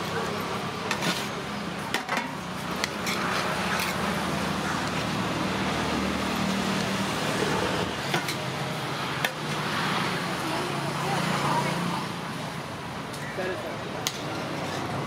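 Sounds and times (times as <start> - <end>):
street traffic engine hum: 0.0 - 15.0.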